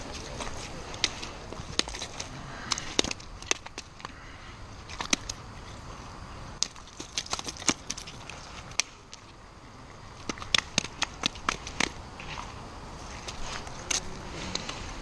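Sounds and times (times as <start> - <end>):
stones clicking and knocking: 0.0 - 4.2, 4.9 - 5.4, 6.6 - 9.3, 10.2 - 14.8.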